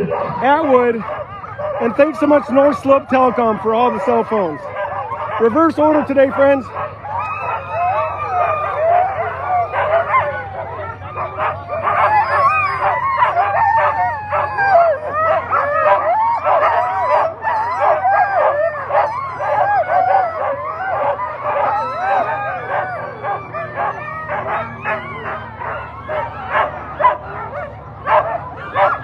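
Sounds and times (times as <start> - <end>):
dogs barking and howling: 0.0 - 29.0.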